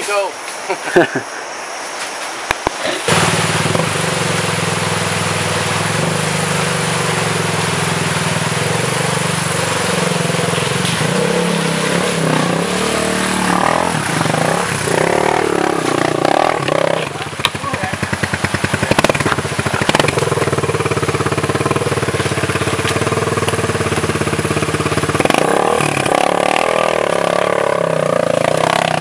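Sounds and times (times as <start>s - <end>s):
dirt bike engine revving: 3.0s - 29.0s.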